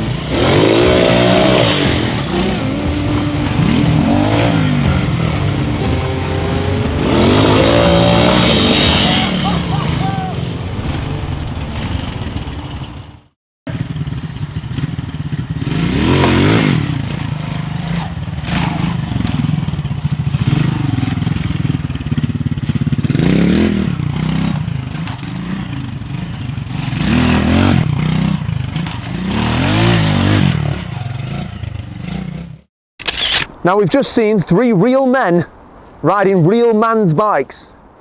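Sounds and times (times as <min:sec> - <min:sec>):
motorcycle engine revving: 0:00.0 - 0:32.7.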